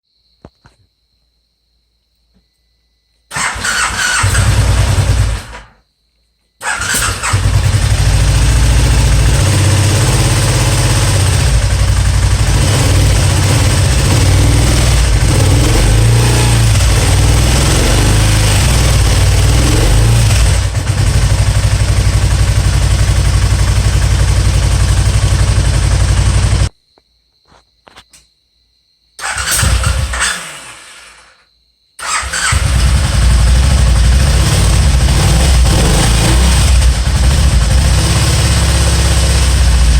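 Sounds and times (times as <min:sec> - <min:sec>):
misfiring engine starting and running: 0:03.3 - 0:05.7, 0:06.6 - 0:26.7, 0:29.2 - 0:31.3, 0:32.0 - 0:39.9.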